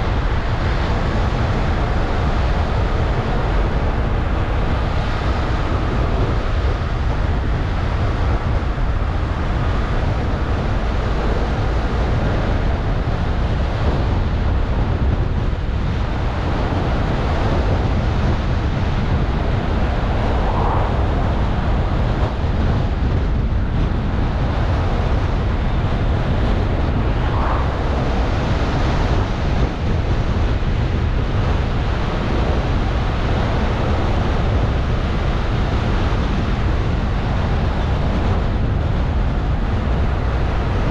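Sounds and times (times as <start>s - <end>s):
car tyre and wind rumble: 0.0s - 40.9s.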